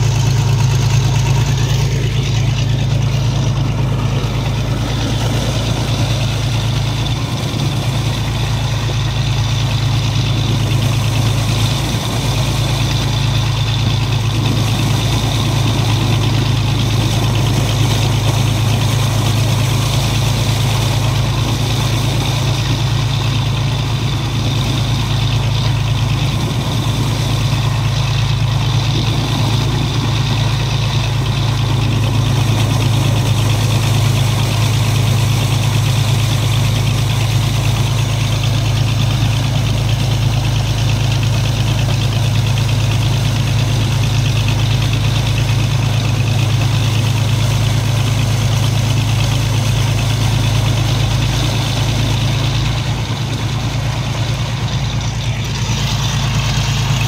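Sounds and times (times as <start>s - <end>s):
engine droning: 0.0s - 57.0s
mud slurry gushing from hose: 0.0s - 57.0s.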